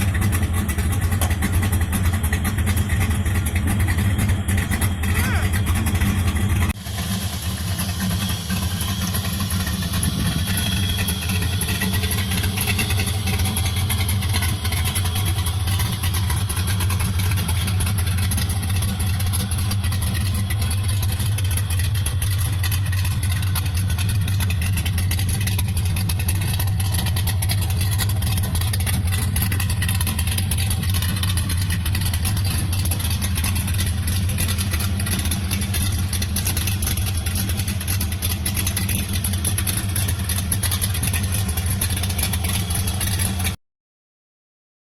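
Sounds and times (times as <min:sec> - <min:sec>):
car engine idling: 0:00.0 - 0:43.6.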